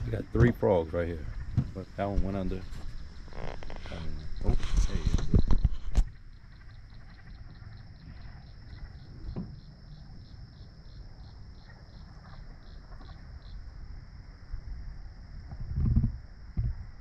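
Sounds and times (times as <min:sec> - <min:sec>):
insects droning: 0:00.0 - 0:17.0
pulsing insect chirp: 0:00.0 - 0:17.0.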